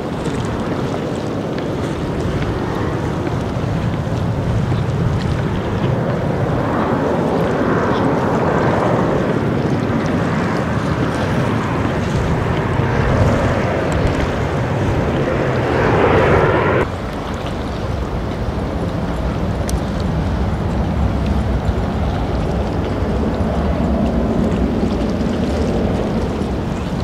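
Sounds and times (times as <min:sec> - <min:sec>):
water washing: 0:00.0 - 0:27.0
wind buffeting microphone: 0:00.0 - 0:27.0
low rumble: 0:01.7 - 0:27.0.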